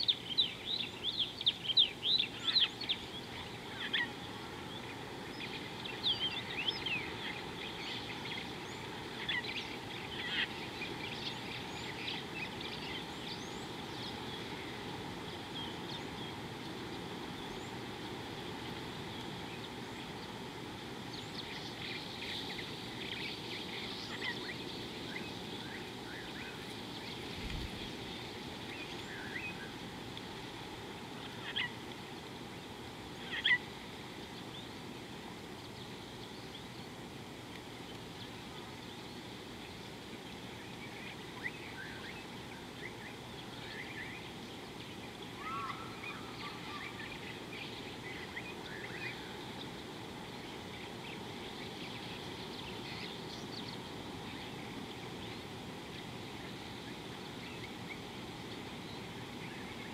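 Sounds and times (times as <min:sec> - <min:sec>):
birds chirping: 0:00.0 - 0:59.9
steady low background noise: 0:00.0 - 0:59.9.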